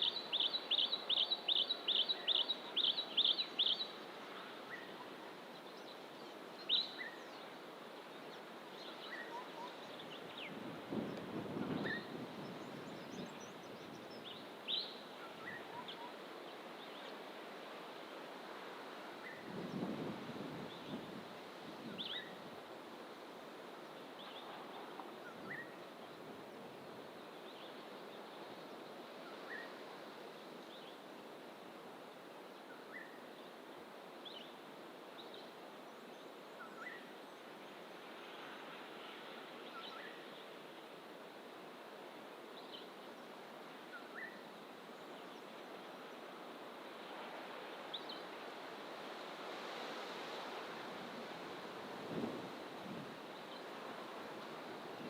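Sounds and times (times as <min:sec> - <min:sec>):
distant ocean surf: 0:00.0 - 0:55.0.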